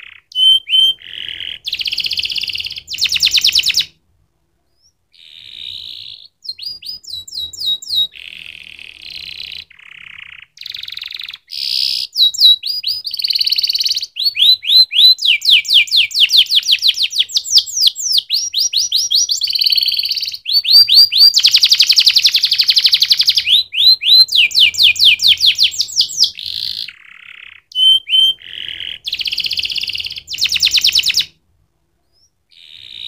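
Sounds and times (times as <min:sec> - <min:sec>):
canary singing trills: 0:00.0 - 0:04.0, 0:04.6 - 0:31.4, 0:32.0 - 0:33.0.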